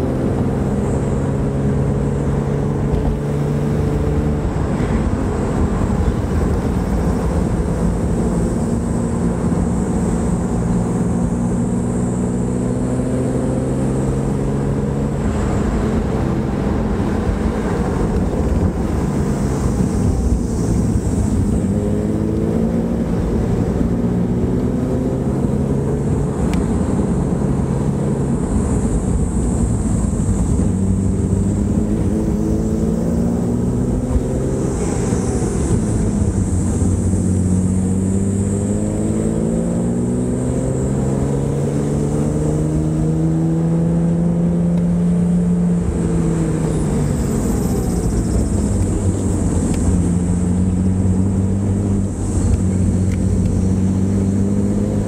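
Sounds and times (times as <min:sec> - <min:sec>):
car engine revving: 0:00.0 - 0:55.0
road noise: 0:00.0 - 0:55.0.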